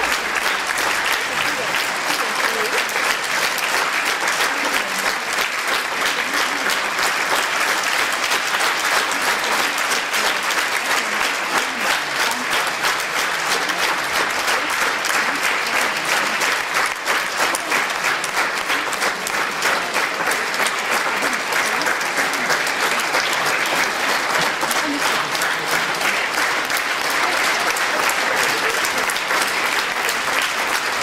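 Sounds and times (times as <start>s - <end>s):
audience applauding: 0.0s - 31.0s.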